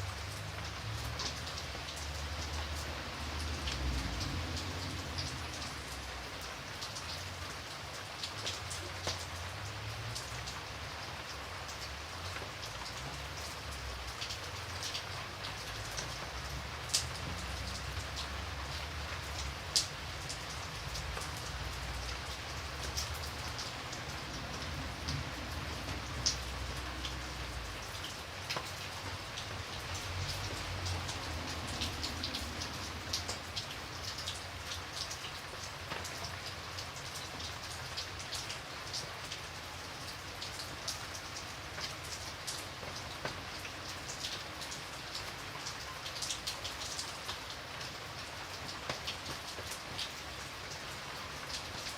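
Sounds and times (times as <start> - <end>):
rain drops ticking on surface: 0.0 - 51.9.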